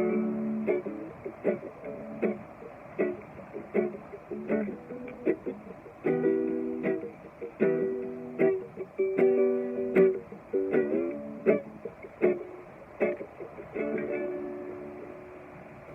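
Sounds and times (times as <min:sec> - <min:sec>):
strummed small guitar reggae rhythm: 0:00.0 - 0:15.9.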